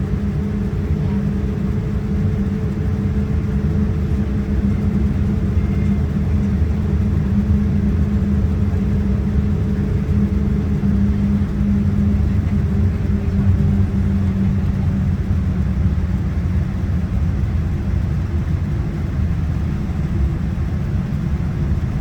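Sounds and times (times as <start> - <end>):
jet engines rumbling inside cabin: 0.0 - 22.0
steady hum: 0.0 - 22.0.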